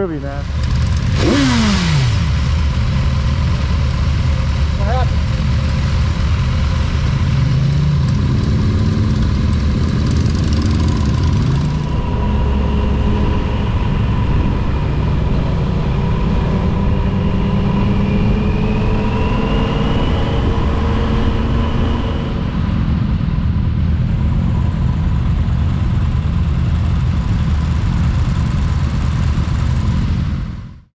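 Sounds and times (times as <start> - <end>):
motorcycles idling and blipping: 0.0 - 30.7
motorcycle accelerating: 0.0 - 30.9.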